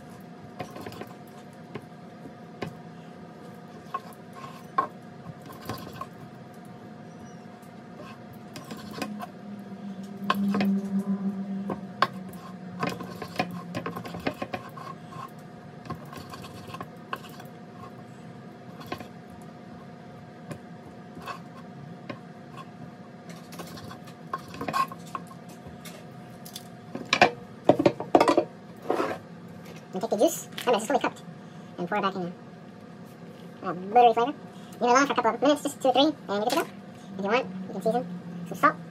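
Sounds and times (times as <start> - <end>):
steady background hum: 0.0 - 38.9.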